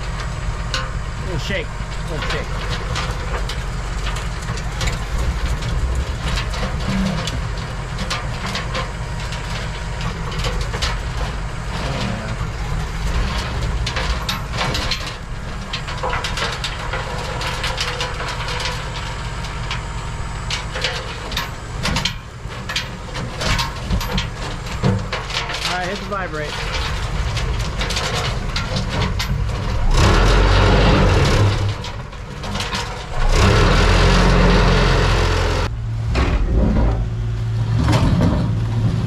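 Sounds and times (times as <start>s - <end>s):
bucket knocking and scraping soil: 0.0s - 39.0s
excavator diesel engine running: 0.0s - 39.0s.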